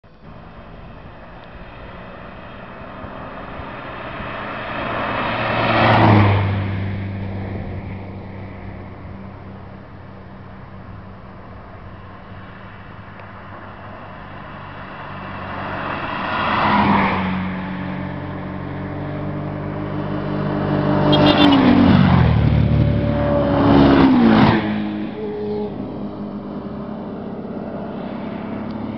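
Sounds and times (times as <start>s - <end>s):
sport motorcycles passing at speed: 0.3s - 9.2s, 11.9s - 28.9s.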